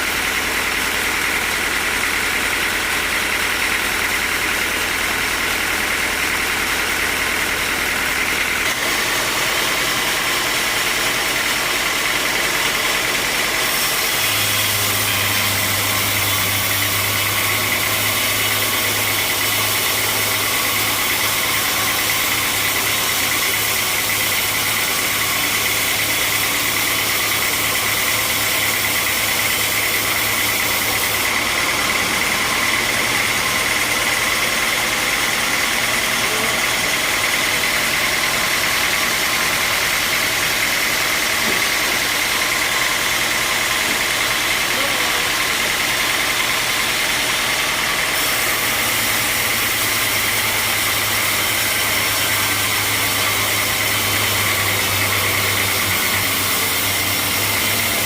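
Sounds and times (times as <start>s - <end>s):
deep machinery hum: 0.0s - 58.0s
sawmill machinery whining: 0.0s - 58.0s.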